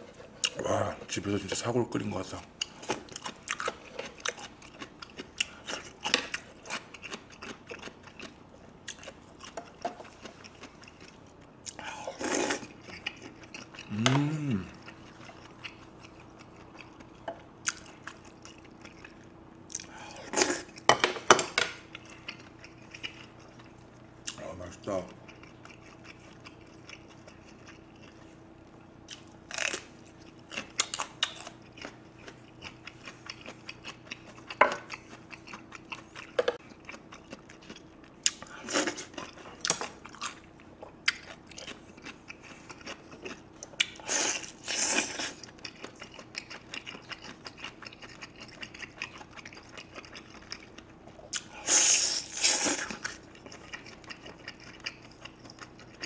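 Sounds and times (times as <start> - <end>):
man chewing meat: 0.0 - 1.2, 2.5 - 20.9, 21.8 - 56.0.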